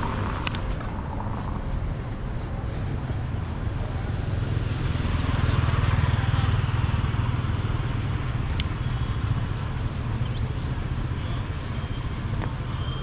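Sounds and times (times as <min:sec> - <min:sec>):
motorbike engine rumbling: 0:00.0 - 0:13.0
street traffic: 0:00.0 - 0:13.0.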